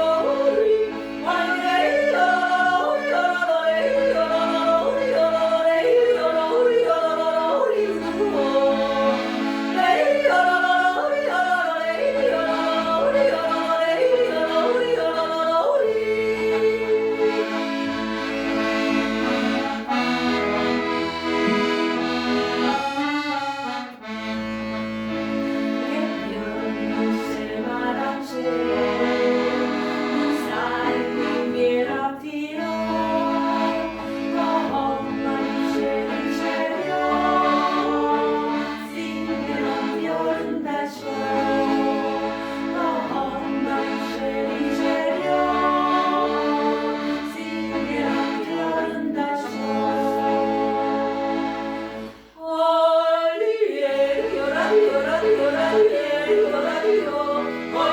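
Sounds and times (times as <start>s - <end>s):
accordion music: 0.0s - 57.9s.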